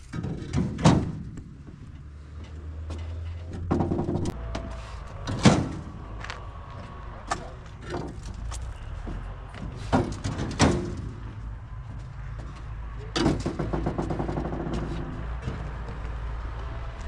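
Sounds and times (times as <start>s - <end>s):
rattling clatter: 0.0s - 6.7s, 7.3s - 11.4s, 12.0s - 16.0s
sharp knocks and clunks: 0.0s - 6.7s, 7.3s - 16.2s
vehicle engine rumbling: 0.0s - 17.0s.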